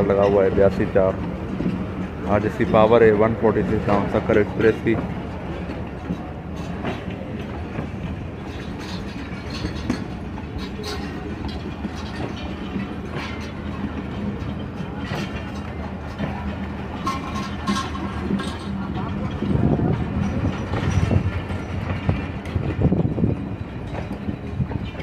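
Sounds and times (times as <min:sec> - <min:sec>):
diesel locomotive humming: 0:00.0 - 0:25.0
train wheels clacking over rail joints: 0:00.0 - 0:25.0.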